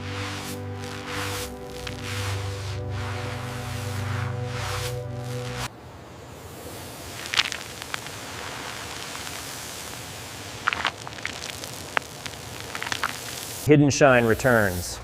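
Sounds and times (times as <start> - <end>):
crackles: 0.0 - 15.0
steady hiss: 0.0 - 15.0.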